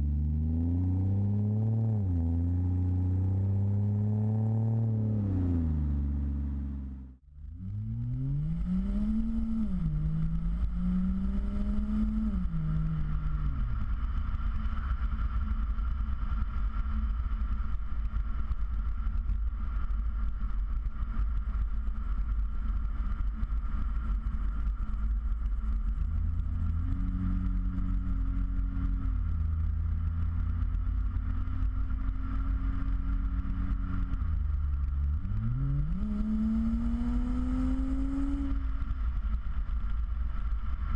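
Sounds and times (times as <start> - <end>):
car exhaust accelerating: 0.0 - 40.9.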